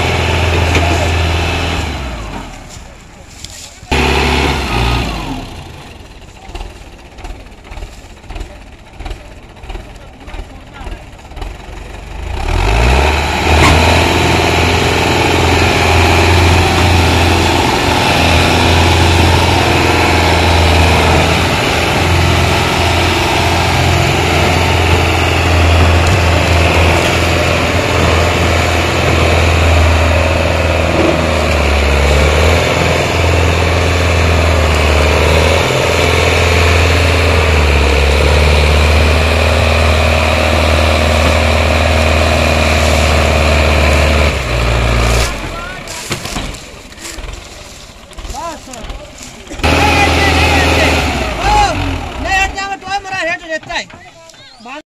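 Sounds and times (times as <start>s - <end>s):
tractor diesel engine under load: 0.0s - 54.8s.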